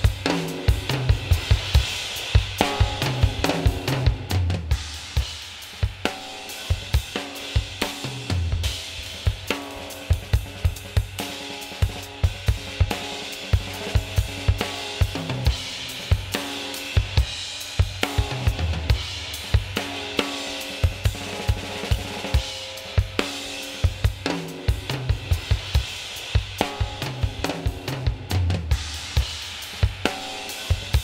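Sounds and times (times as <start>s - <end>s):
drum kit playing a groove: 0.0s - 31.0s.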